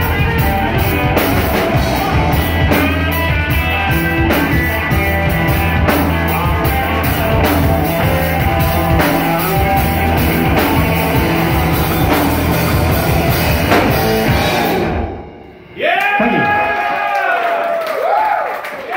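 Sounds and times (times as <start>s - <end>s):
electric bass: 0.0s - 15.7s
drum kit hits: 0.0s - 16.4s
electric guitar: 0.0s - 16.4s.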